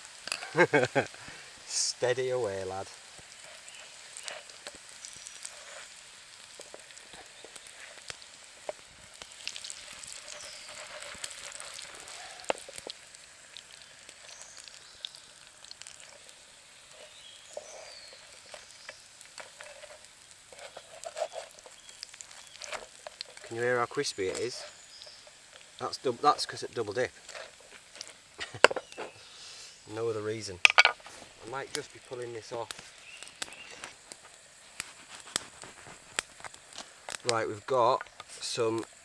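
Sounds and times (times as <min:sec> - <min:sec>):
mushrooms sizzling in oil: 0:00.0 - 0:39.0
oil popping: 0:00.0 - 0:39.0.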